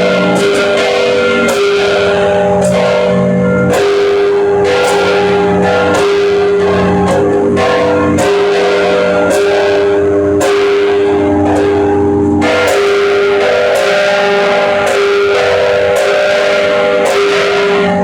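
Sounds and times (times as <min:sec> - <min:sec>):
church bells ringing: 0:00.0 - 0:18.0.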